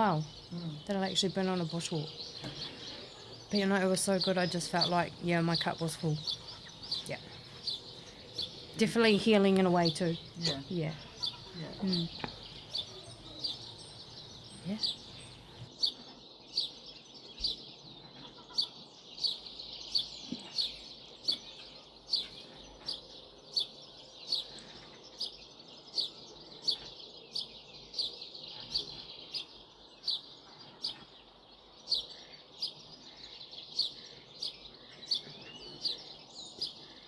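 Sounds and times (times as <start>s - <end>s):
bird chirping: 0.0s - 37.0s.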